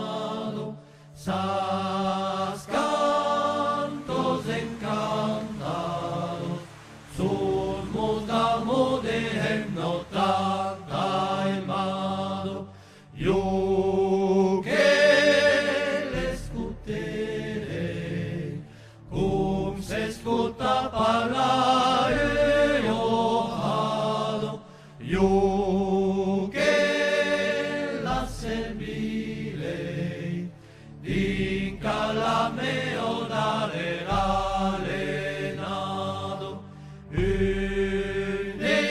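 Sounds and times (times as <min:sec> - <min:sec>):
slow song with chant-like vocal: 0:00.0 - 0:38.9.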